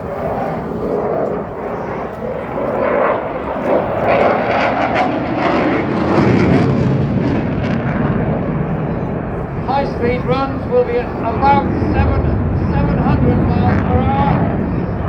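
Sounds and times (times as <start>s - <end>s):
crackling jet engine noise: 0.0s - 15.0s.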